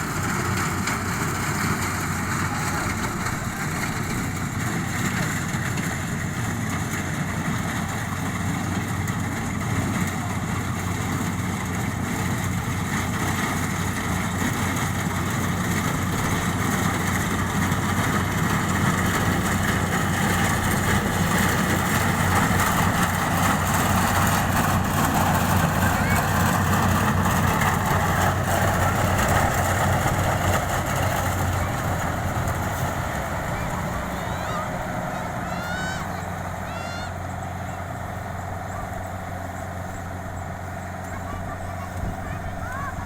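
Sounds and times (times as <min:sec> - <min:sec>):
harvester engine running: 0:00.0 - 0:43.0.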